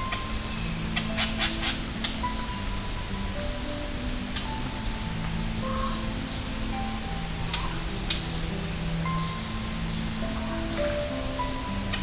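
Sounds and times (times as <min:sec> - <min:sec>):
insect chorus: 0:00.0 - 0:12.0
soft music with held notes: 0:00.0 - 0:12.0.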